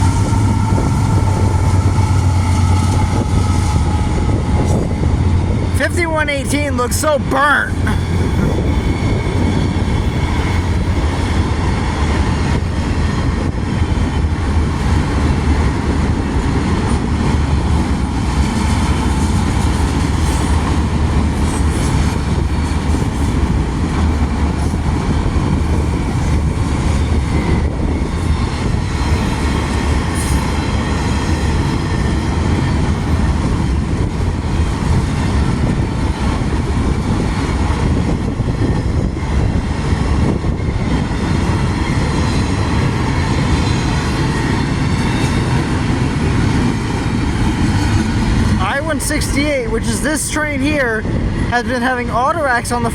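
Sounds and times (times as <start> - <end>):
freight train wheels on track: 0.0 - 52.9.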